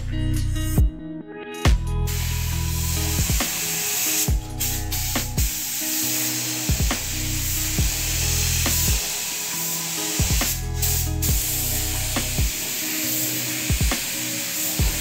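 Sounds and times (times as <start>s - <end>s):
background music with steady beat: 0.0s - 15.0s
spray gun hissing: 2.1s - 15.0s.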